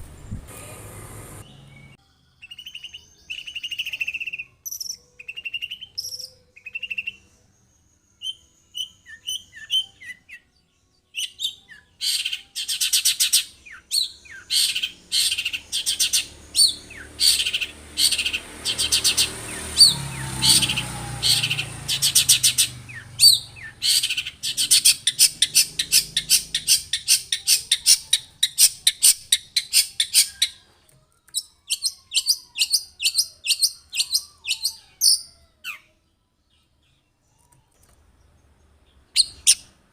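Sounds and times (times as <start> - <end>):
bird singing harsh repeated notes: 1.4 - 35.8, 38.7 - 39.9
bird chirps: 1.4 - 39.9.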